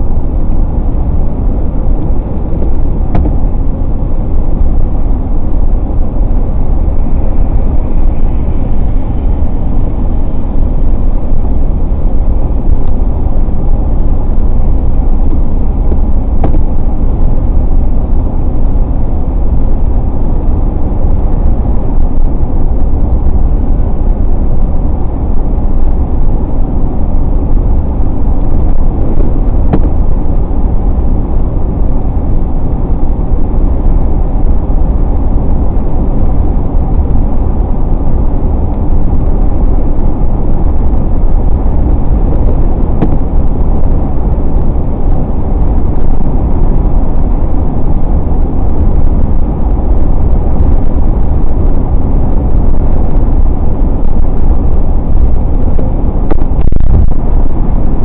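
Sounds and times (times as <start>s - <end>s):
car engine: 0.0s - 58.0s
tyre road noise: 0.0s - 58.0s
wind noise: 0.0s - 58.0s.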